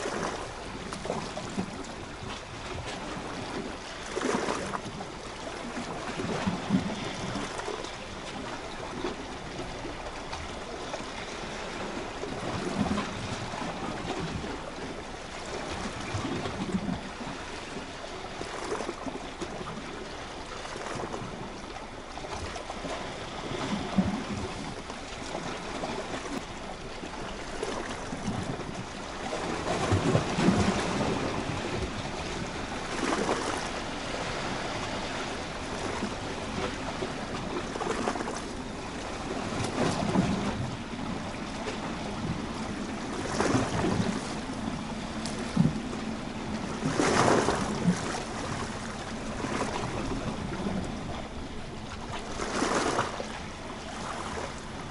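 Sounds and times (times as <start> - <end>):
small waves washing against rocks: 0.0 - 54.9.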